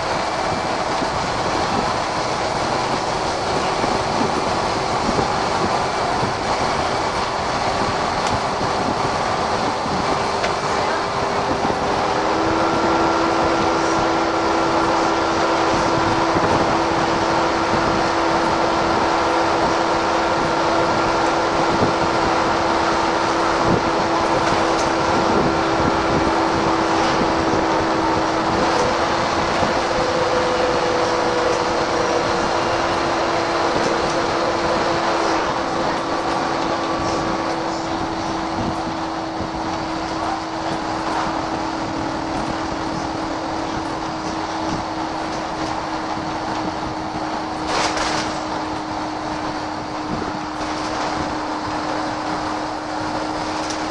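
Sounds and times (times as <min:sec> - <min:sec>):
bus engine and road noise: 0:00.0 - 0:53.9.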